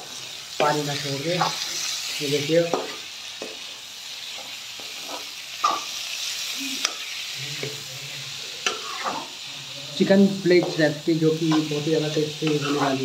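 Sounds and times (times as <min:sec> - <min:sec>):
onions and tomatoes sizzling in oil: 0:00.0 - 0:13.0.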